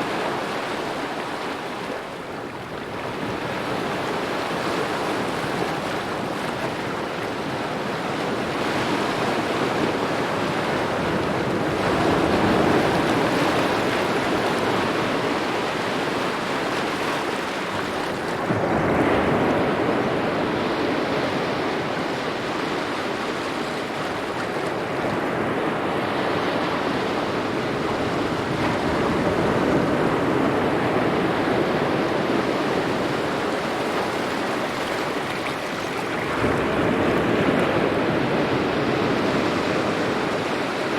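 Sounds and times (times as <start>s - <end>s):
small waves lapping on shore: 0.0s - 40.9s.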